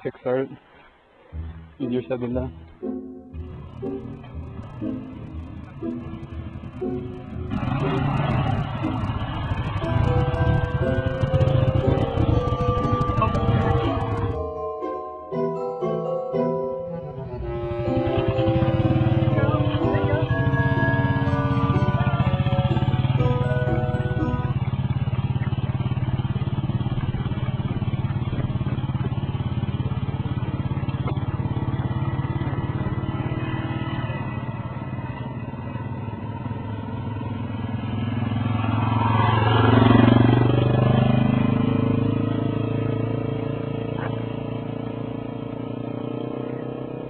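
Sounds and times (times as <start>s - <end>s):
motorcycle engine running: 1.3s - 14.8s, 17.3s - 47.0s
motorcycle passing by: 2.6s - 14.6s, 17.2s - 47.0s.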